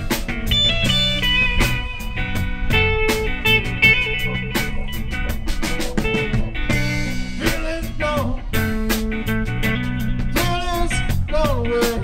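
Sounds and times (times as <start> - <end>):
bass guitar: 0.0 - 12.0
drum kit: 0.0 - 12.0
electric guitars: 0.0 - 12.0
guitar bending notes down: 0.0 - 12.0.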